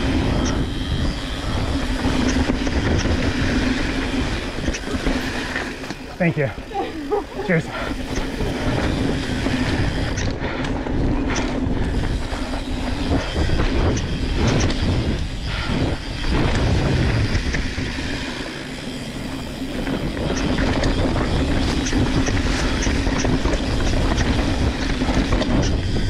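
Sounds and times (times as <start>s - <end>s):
bike rattling over bumps: 0.0s - 26.0s
bike tyres rumbling over dirt: 0.0s - 26.0s
steady low hum: 0.0s - 26.0s.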